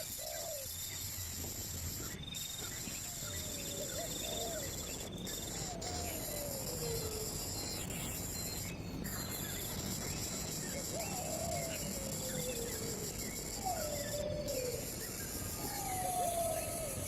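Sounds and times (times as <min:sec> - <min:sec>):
insects chirring: 0:00.0 - 0:17.0
low wavering whistled calls: 0:00.0 - 0:17.0.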